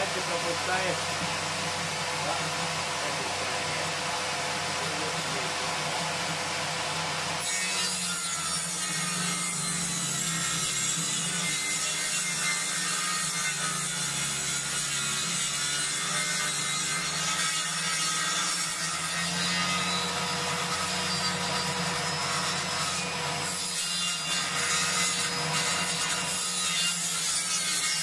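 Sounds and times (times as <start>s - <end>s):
table saw ripping log: 0.0s - 28.0s.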